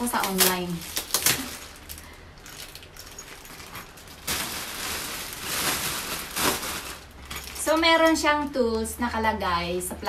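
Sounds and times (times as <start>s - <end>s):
plastic wrap crinkling: 0.0s - 8.2s.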